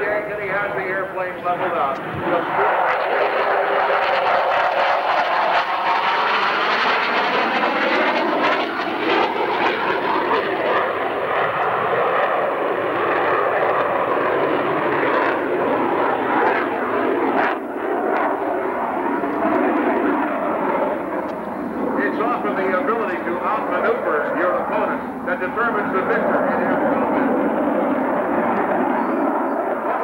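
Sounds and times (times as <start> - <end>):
jet engine noise: 0.0 - 30.0.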